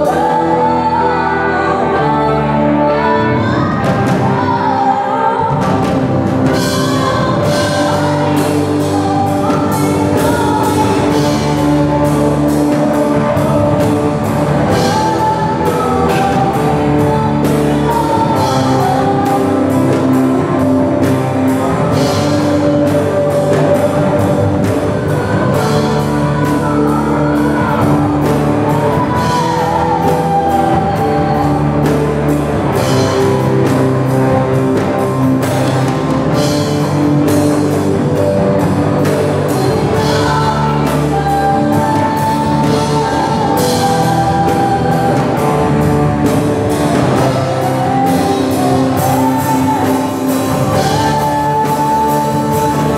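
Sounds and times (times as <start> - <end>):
bass guitar: 0.0 - 52.9
electric guitars: 0.0 - 52.9
keyboard: 0.0 - 52.9
woman singing into a microphone: 0.0 - 52.9.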